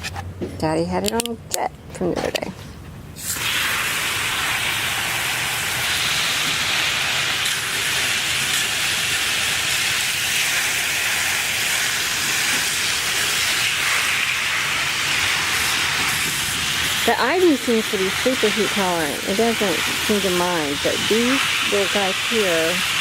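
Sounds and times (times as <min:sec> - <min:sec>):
hose nozzle spraying water: 0:03.2 - 0:23.0.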